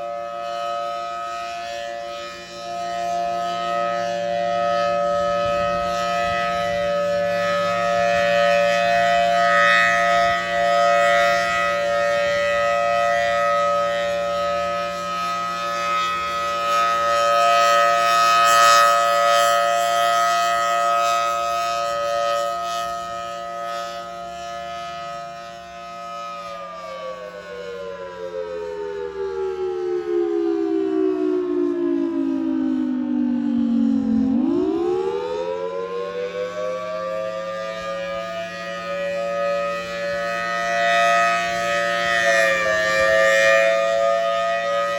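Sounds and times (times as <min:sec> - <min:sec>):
warning siren multi-tone chord: 0:00.0 - 0:44.9.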